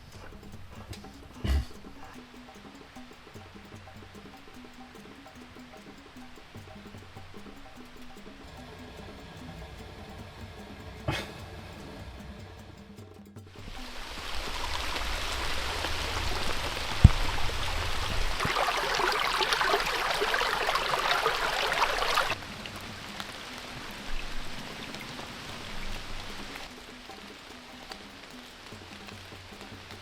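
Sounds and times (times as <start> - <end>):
hissing water: 0.0 - 30.0.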